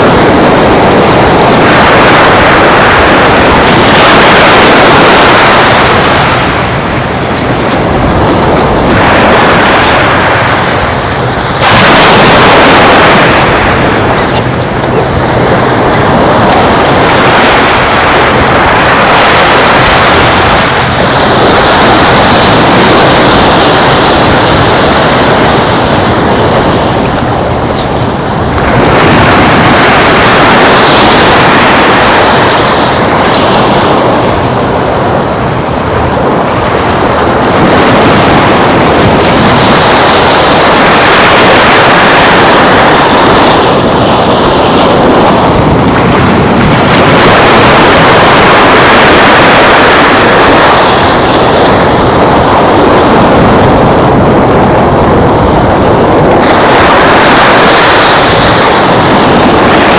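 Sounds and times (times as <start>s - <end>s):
ocean surf washing ashore: 0.0s - 59.9s
wind noise on microphone: 0.0s - 59.9s.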